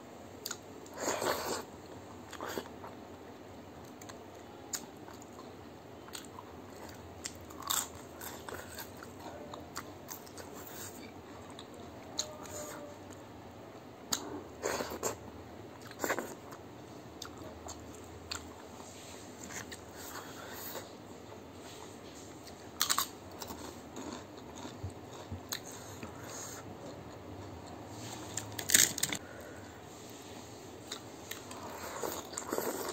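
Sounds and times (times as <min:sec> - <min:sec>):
person chewing food: 0:03.8 - 0:13.2, 0:14.1 - 0:16.6, 0:17.2 - 0:29.8, 0:30.8 - 0:32.9.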